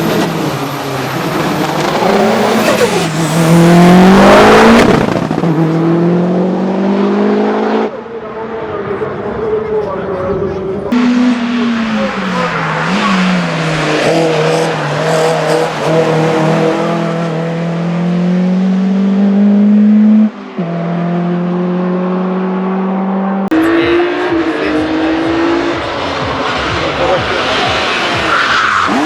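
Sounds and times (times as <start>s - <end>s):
race car engine accelerating: 0.0s - 29.0s.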